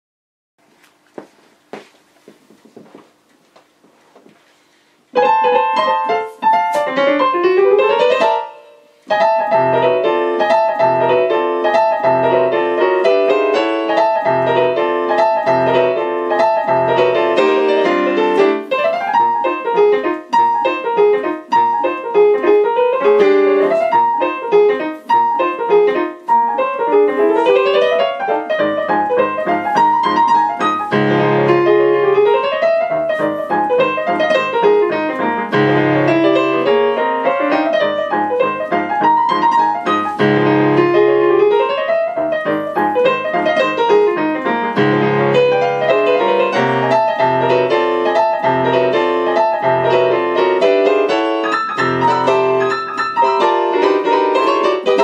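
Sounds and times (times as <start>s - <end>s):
digital piano jazz piece: 0.6s - 55.0s.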